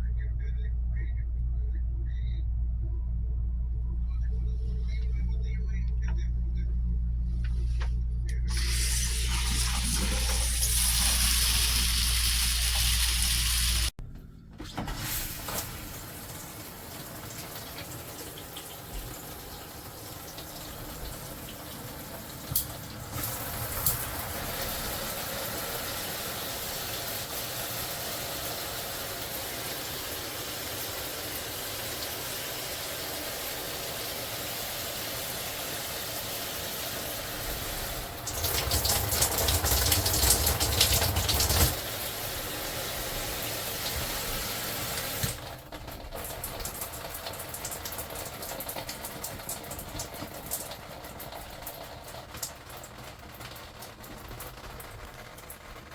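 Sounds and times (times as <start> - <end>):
water running: 8.3 - 14.0, 14.7 - 55.9
water gushing: 8.5 - 13.9, 14.9 - 55.9.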